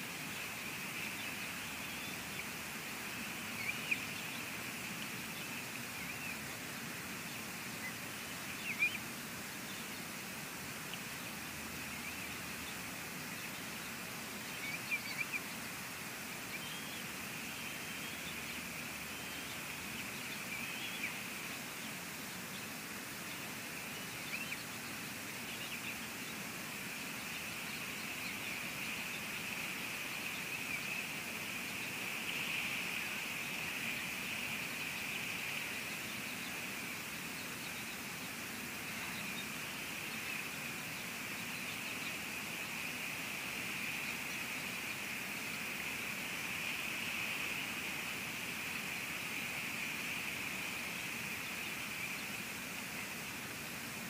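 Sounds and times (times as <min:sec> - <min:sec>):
rain and wind hiss: 0:00.0 - 0:54.0.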